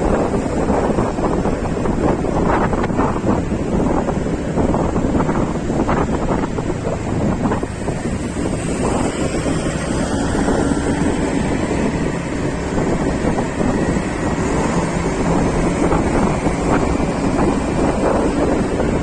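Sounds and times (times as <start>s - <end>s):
vehicle and road drone: 0.0s - 19.0s
wind buffeting microphone: 0.0s - 19.0s.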